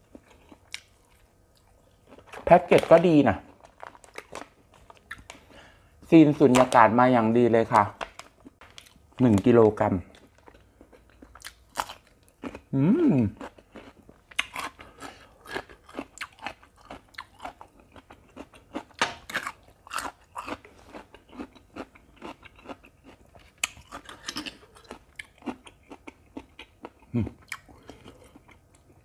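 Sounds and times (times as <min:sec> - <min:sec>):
crunching and chewing cucumber: 0:00.0 - 0:05.5, 0:08.2 - 0:29.0.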